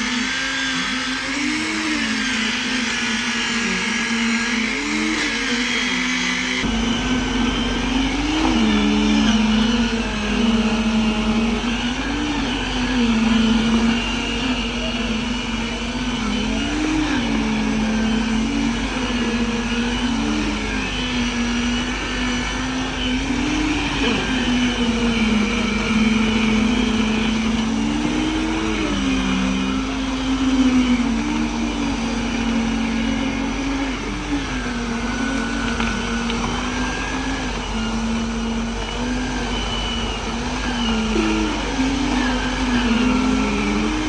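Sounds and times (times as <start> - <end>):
diesel pump truck engine revving: 0.0 - 44.0.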